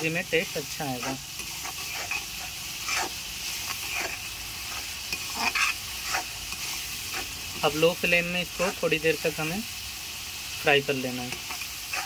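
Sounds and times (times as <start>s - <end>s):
metal spoon scraping a pan: 0.0s - 9.0s, 11.1s - 12.0s
masala sizzling in oil: 0.0s - 12.0s.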